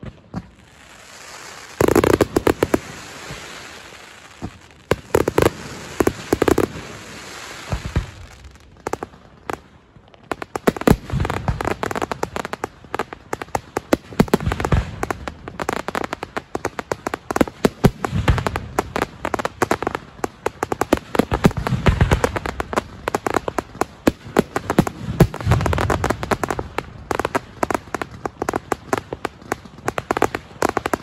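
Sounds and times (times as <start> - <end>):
fireworks bangs and crackling: 0.0 - 31.0.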